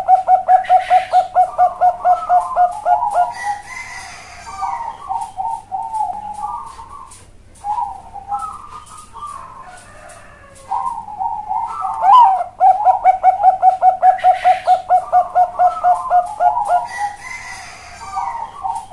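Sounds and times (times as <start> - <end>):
dove cooing: 0.0 - 18.9.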